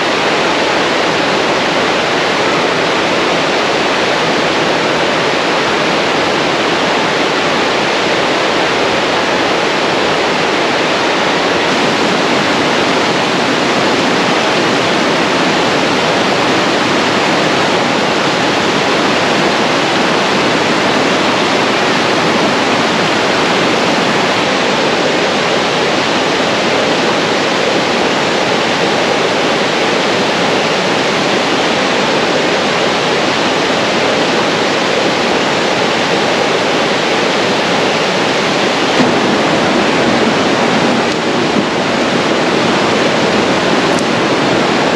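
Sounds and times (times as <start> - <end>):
river rapids rushing: 0.0 - 44.9.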